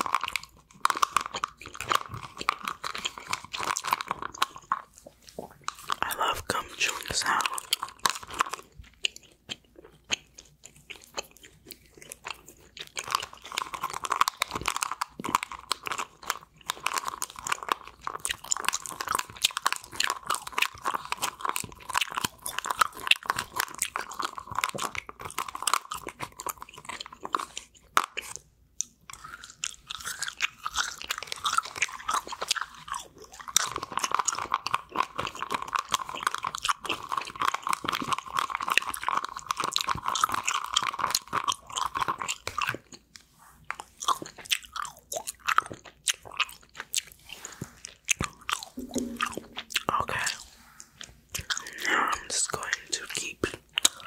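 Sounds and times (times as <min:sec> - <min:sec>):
gum chewing: 0:00.0 - 0:54.0.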